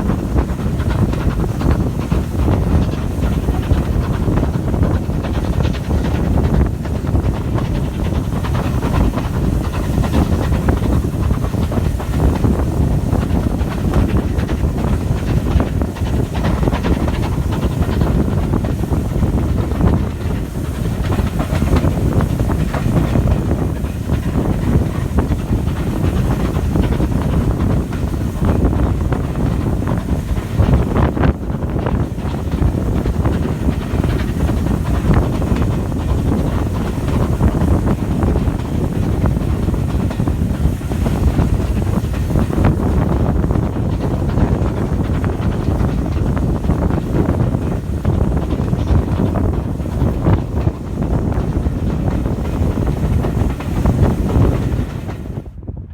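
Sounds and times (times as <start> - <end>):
wheels clattering on rails: 0.0 - 55.6
steam train rumble: 0.0 - 55.9.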